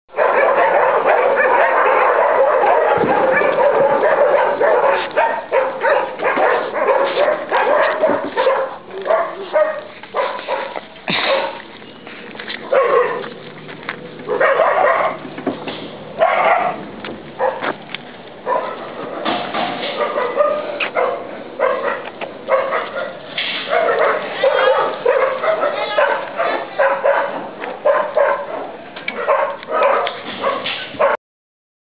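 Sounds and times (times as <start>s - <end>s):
many dogs barking: 0.1s - 11.7s, 12.6s - 13.4s, 14.2s - 15.3s, 16.2s - 16.8s, 17.4s - 17.7s, 18.4s - 31.2s.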